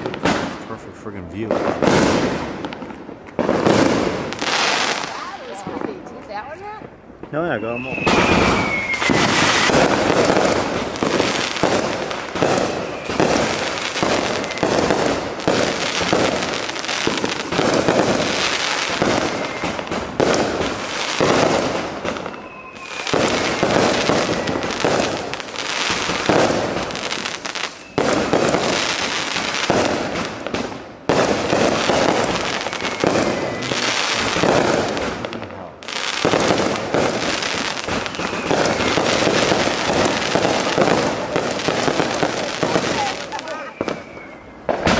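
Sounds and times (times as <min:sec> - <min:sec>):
fireworks bangs and crackling: 0:00.0 - 0:44.9
falling firework whistles: 0:07.3 - 0:35.2, 0:35.9 - 0:44.9.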